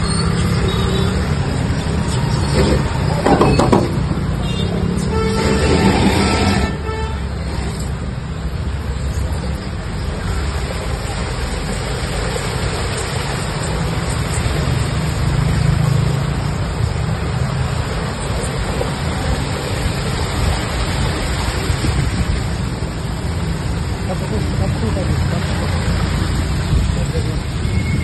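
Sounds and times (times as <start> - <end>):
vehicles driving through water: 0.0 - 28.0
wheels splashing through water: 0.0 - 28.0.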